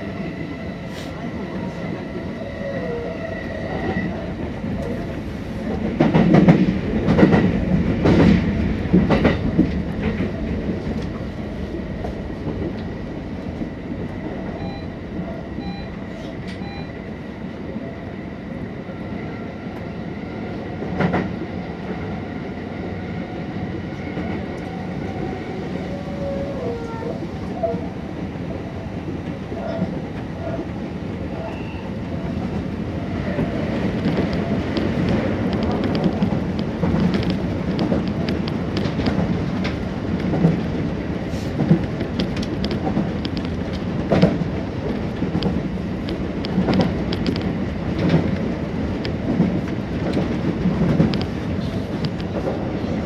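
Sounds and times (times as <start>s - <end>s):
train running rumble: 0.0s - 18.8s, 19.8s - 53.0s.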